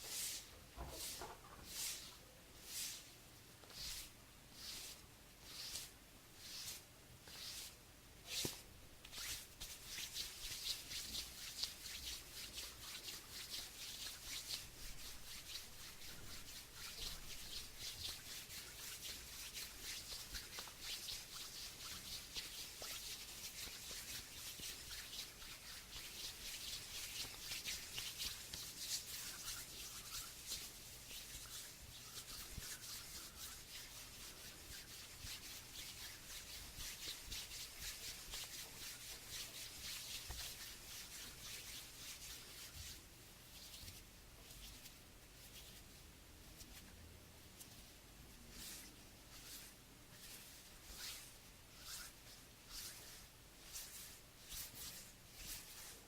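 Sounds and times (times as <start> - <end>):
palms rubbing together: 0.0 - 45.8, 48.5 - 56.0.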